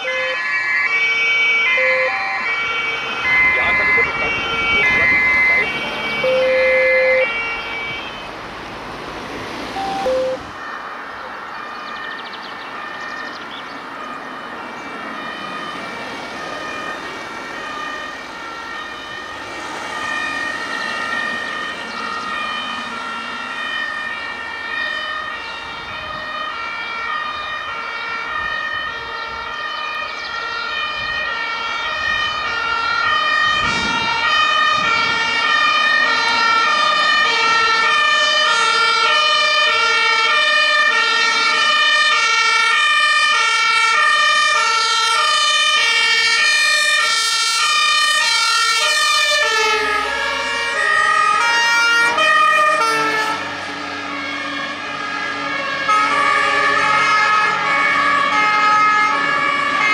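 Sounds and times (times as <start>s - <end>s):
two-tone emergency sirens: 0.0s - 59.9s.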